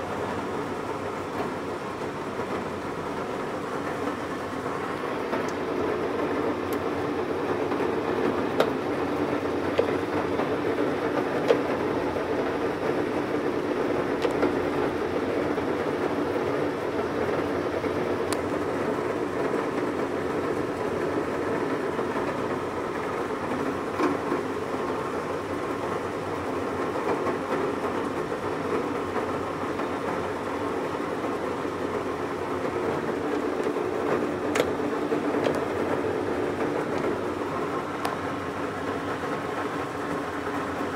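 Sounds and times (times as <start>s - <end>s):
lathe running with mechanical whir: 0.0s - 40.9s.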